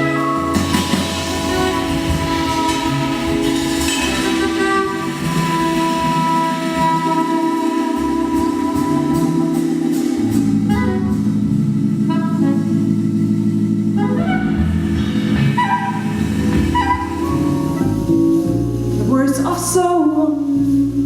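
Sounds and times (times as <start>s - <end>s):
jazz ensemble playing: 0.0s - 21.0s
walking bass line: 0.0s - 21.0s.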